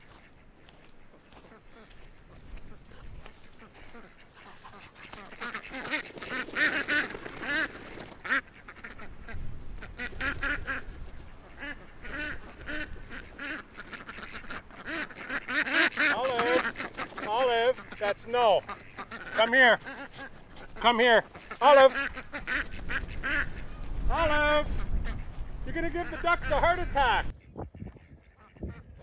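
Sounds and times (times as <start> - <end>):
ducks quacking loudly: 0.0 - 29.0.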